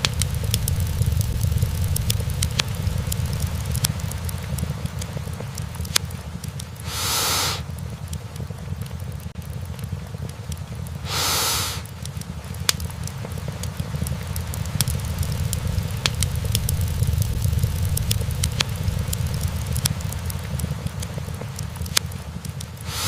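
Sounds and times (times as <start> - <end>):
fire hissing: 0.0 - 23.0
logs crackling and popping: 0.0 - 23.0
low rumble of flames: 0.0 - 23.0.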